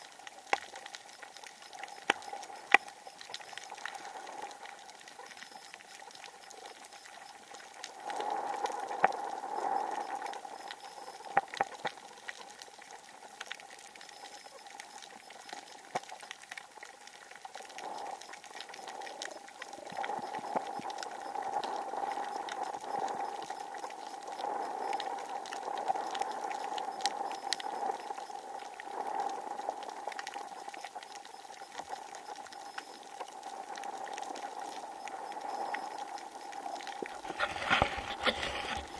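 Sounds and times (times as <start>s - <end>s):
steady underwater hum: 0.0s - 38.9s.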